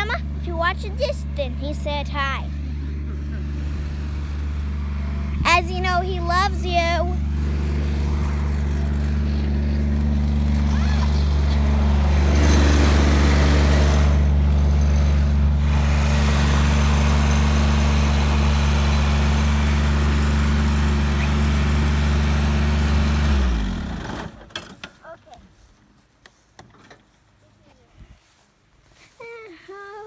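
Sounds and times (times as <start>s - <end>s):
tractor engine running: 0.0s - 25.2s.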